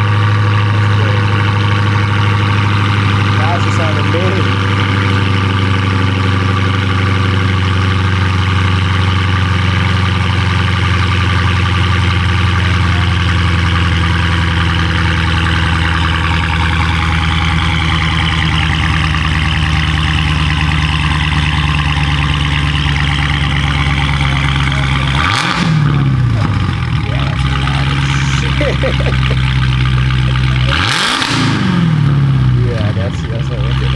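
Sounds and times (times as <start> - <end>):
car engine droning through exhaust: 0.0 - 33.9.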